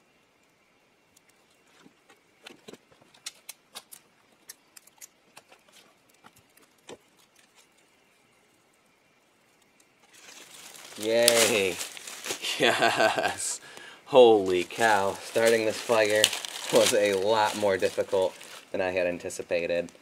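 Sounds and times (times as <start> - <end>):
fire crackling: 0.0 - 20.0.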